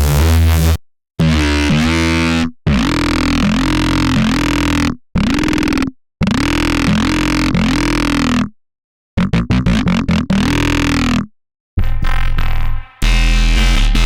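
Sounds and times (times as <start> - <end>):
gritty synthesizer bass notes: 0.0 - 8.5, 9.2 - 14.0.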